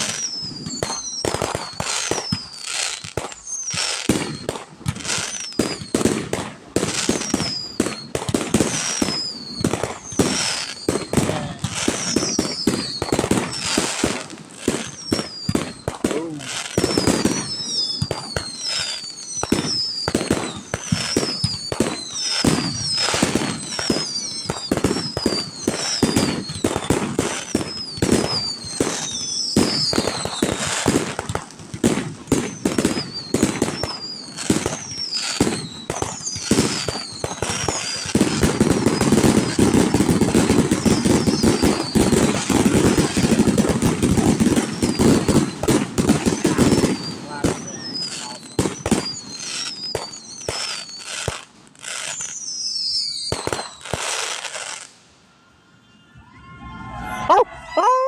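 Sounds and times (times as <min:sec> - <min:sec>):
fireworks bangs and crackles: 0:00.0 - 0:55.1
fireworks falling whistles: 0:00.0 - 0:58.0.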